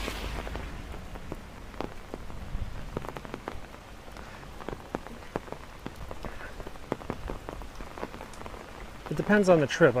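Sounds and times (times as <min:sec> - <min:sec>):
big raindrops tapping: 0:00.0 - 0:10.0
heavy rain falling: 0:00.0 - 0:10.0.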